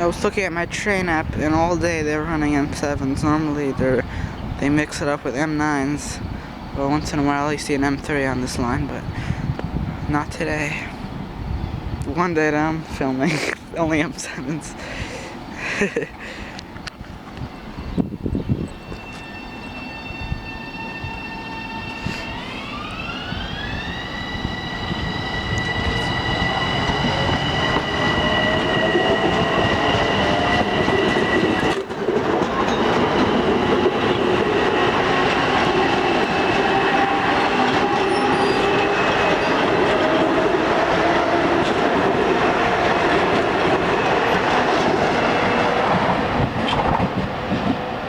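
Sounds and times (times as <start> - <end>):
electric train whine: 0.0 - 48.0
train wheel and rail noise: 0.0 - 48.0.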